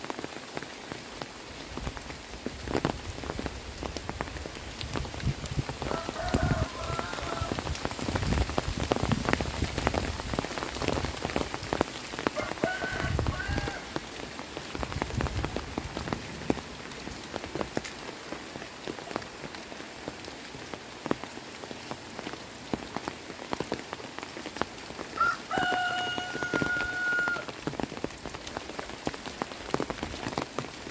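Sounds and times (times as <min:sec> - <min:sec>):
heavy rain falling: 0:00.0 - 0:30.9
raindrops pattering on surfaces: 0:00.0 - 0:30.9.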